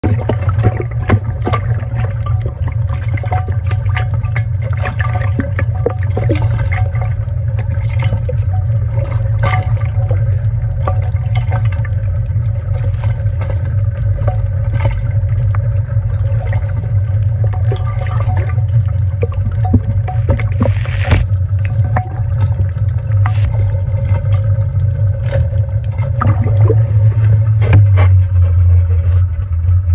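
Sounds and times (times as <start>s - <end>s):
small knocks and splashes: 0.0s - 29.4s
steady low rumble: 0.0s - 29.9s
water sloshing and slapping: 0.0s - 29.9s.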